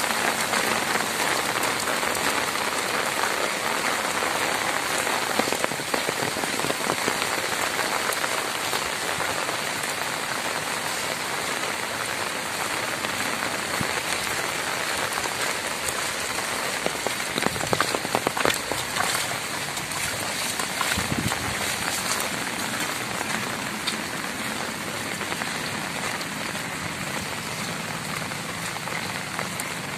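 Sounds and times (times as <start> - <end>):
heavy rain on water: 0.0 - 29.9
sharp loud raindrop taps: 0.1 - 29.9.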